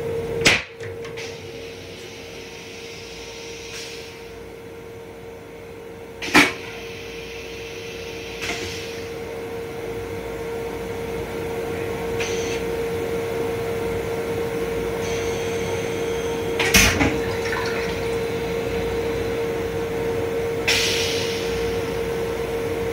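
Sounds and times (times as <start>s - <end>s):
train interior hum and rumble: 0.0s - 22.9s.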